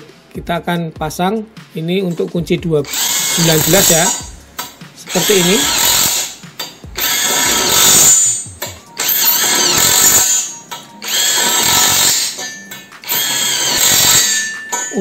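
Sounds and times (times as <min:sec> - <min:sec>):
impact wrench driving nuts: 0:02.9 - 0:15.0.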